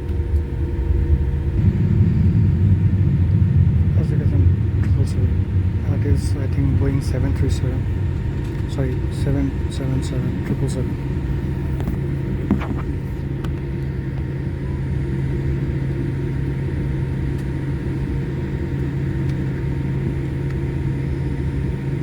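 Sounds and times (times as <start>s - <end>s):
aircraft cabin rumble and hum: 0.0s - 22.0s.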